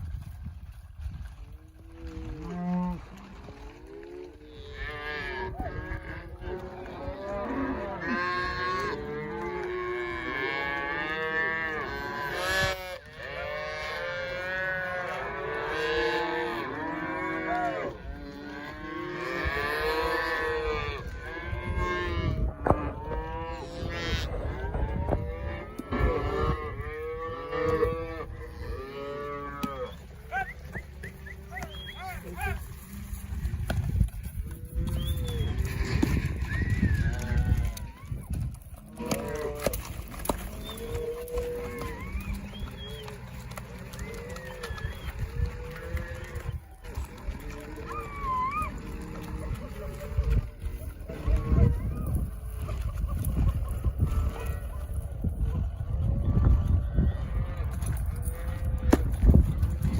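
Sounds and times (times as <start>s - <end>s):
cows mooing: 1.7s - 55.2s.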